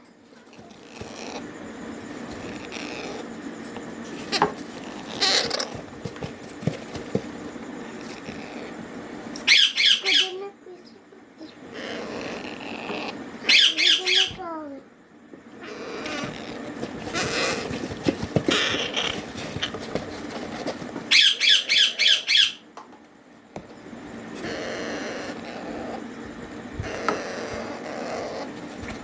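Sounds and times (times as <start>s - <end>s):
steady background hum: 0.0s - 29.0s
parrot chicks squawking: 0.4s - 1.6s, 2.2s - 3.3s, 4.2s - 7.2s, 7.8s - 10.6s, 11.4s - 14.8s, 15.5s - 22.7s, 24.3s - 29.0s.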